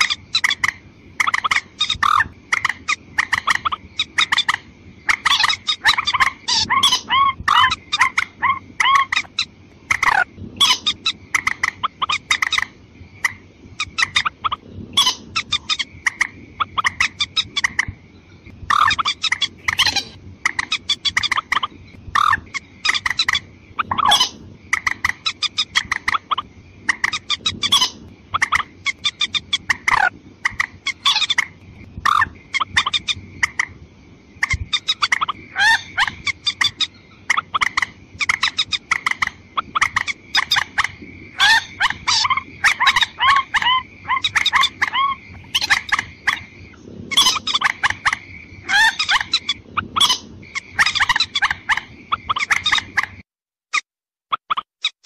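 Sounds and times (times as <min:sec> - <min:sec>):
watercock calls: 0:00.0 - 0:18.0, 0:18.7 - 0:33.7, 0:34.4 - 0:46.5, 0:47.1 - 0:53.2.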